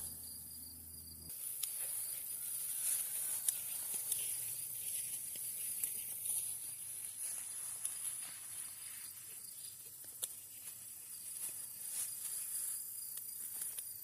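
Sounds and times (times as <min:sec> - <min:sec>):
insects calling: 0:00.0 - 0:14.0
faint clicks and rustles: 0:01.3 - 0:14.0.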